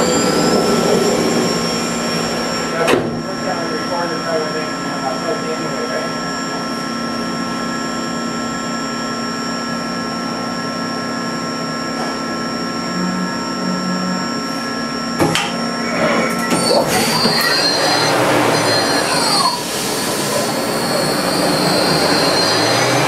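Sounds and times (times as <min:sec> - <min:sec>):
lathe humming with high whine: 0:00.0 - 0:23.0
loud machine noise: 0:00.0 - 0:23.0.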